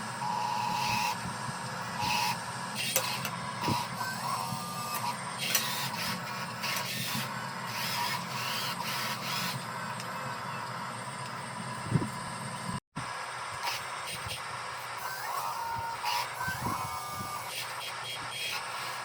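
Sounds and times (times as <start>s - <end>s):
electric motors whirring: 0.0s - 12.8s, 13.6s - 19.0s.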